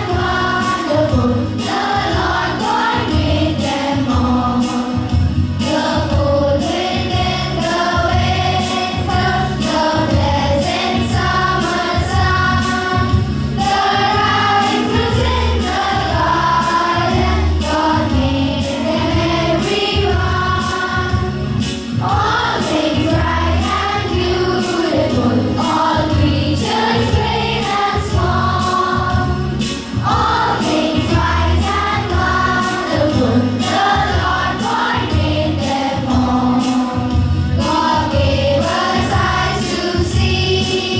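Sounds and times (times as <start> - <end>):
group singing: 0.0 - 40.9
rhythmic accompaniment: 0.0 - 40.9.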